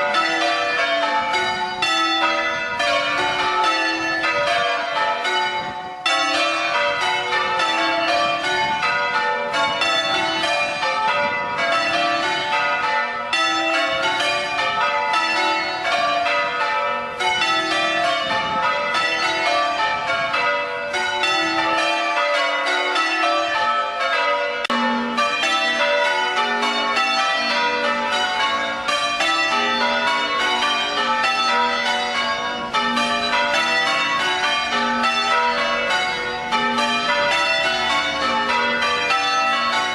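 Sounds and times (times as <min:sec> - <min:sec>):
church bells change ringing: 0:00.0 - 0:39.9.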